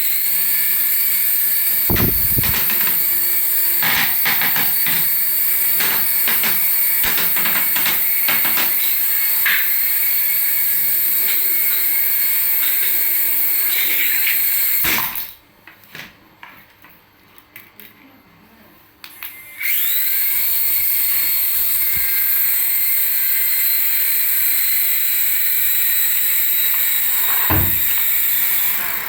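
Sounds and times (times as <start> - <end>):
toy electric motor whirring: 0.0 - 14.8, 19.1 - 29.0.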